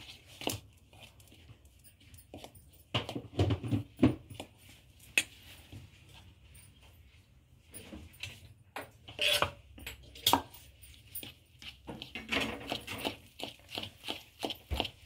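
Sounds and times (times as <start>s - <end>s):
stirring batter strokes: 0.0s - 15.0s.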